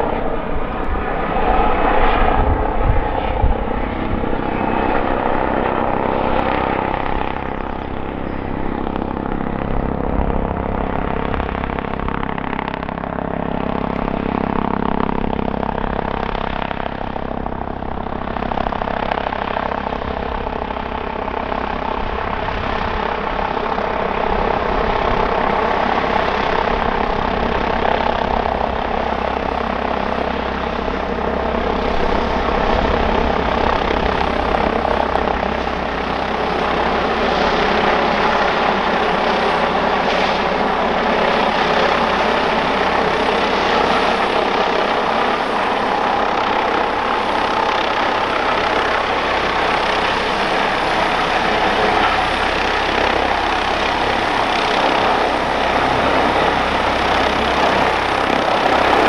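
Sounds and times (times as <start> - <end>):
helicopter rotor and engines: 0.0 - 59.0.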